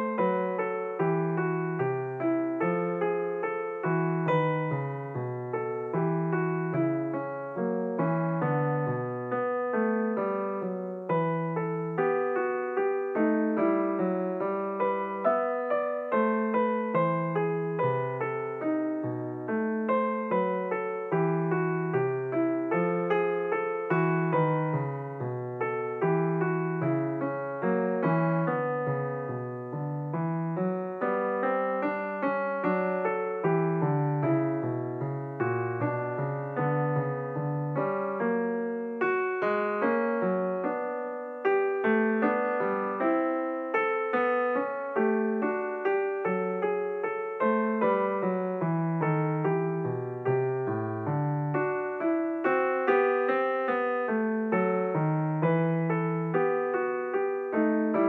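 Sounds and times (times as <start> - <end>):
calm piano music: 0.0 - 58.0.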